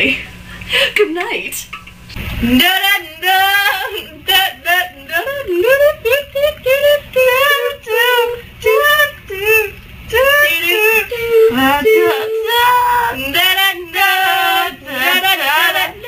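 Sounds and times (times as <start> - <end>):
high voice singing: 2.4 - 16.0.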